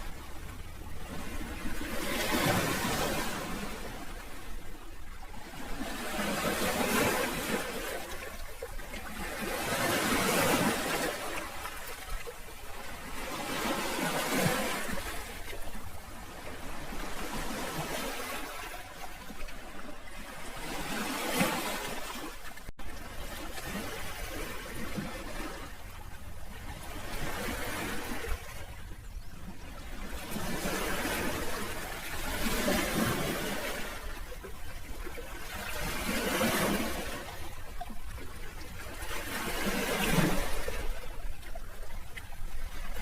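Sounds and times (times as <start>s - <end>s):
sea waves washing ashore: 0.0s - 43.0s.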